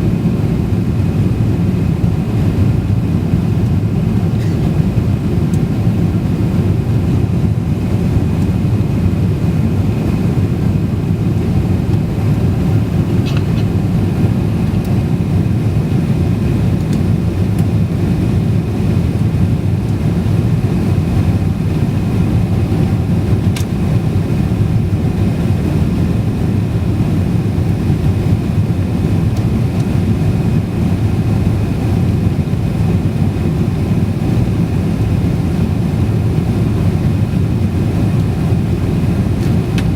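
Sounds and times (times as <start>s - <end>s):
jet engine rumble with whine: 0.0s - 39.9s.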